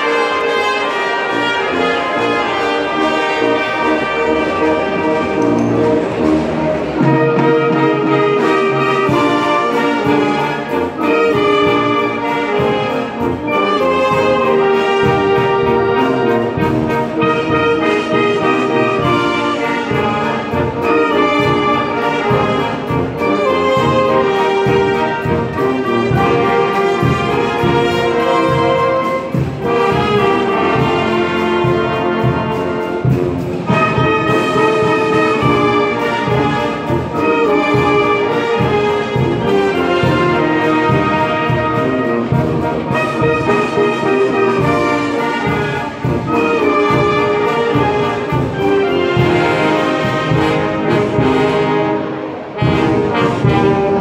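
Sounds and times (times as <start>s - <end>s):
wind band playing: 0.0s - 54.0s
steady drum beat: 3.0s - 51.9s.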